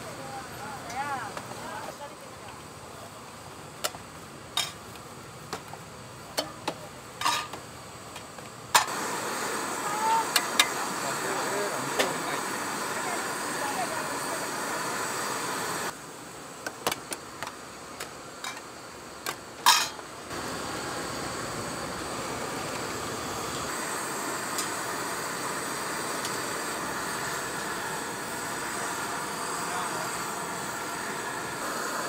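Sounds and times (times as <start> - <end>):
busy food stall background noise: 0.0 - 32.0.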